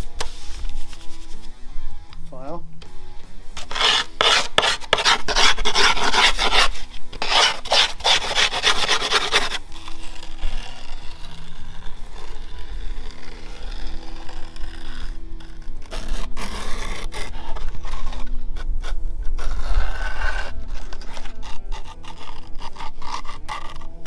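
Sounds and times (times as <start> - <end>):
grip tape rasping on skateboard: 3.6 - 24.0.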